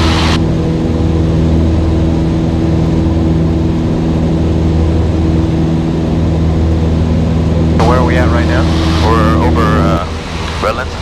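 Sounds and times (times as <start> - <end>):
air noise: 0.0 - 11.0
propeller plane engine droning: 0.0 - 11.0.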